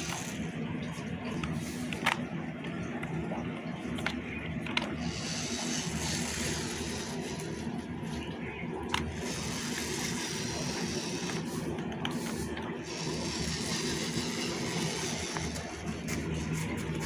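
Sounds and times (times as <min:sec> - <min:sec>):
small electric motor and gearbox running: 0:00.0 - 0:17.0.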